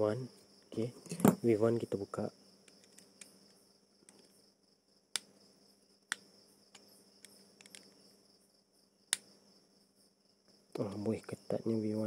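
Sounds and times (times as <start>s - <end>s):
insect chirr: 0.0s - 12.0s.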